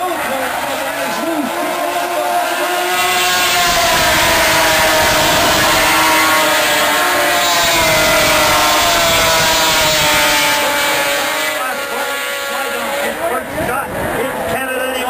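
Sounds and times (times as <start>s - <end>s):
snowmobiles passing at speed: 0.0s - 14.5s.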